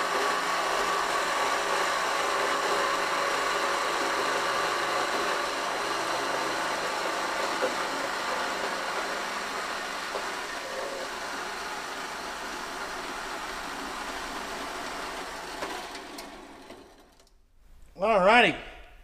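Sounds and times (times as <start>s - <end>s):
bandsaw cutting metal pipe: 0.0s - 16.3s.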